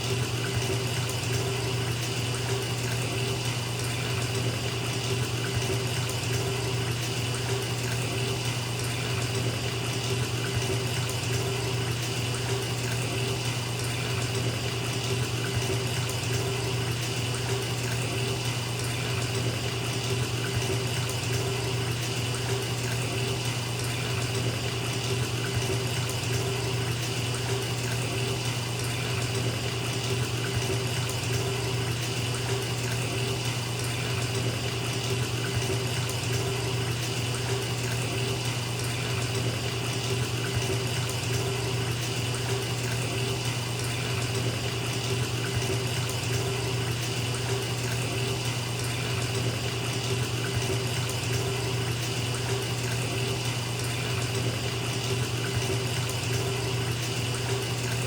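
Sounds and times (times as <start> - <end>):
water pouring into bathtub: 0.0 - 58.0.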